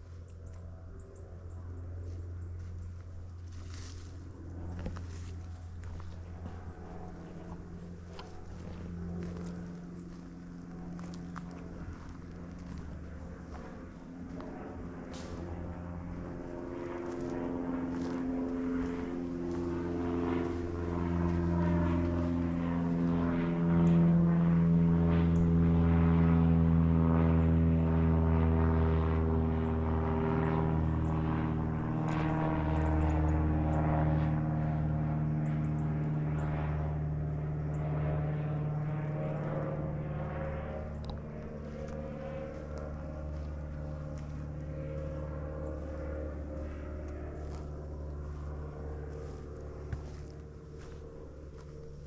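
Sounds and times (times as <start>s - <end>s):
propeller aircraft droning overhead: 0.0s - 52.0s.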